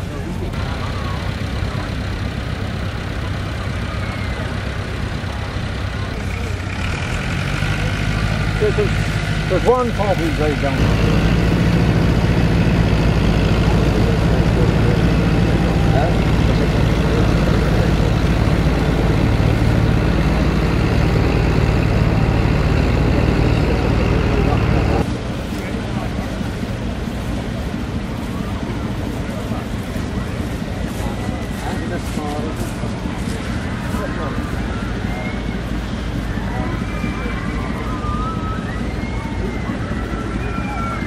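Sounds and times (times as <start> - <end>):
tractor engines droning: 0.0 - 41.0.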